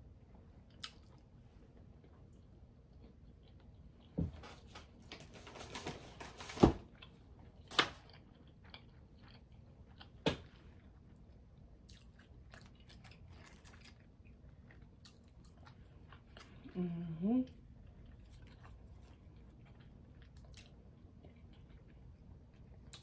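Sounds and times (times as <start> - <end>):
person chewing: 0.6 - 4.2, 6.9 - 23.0.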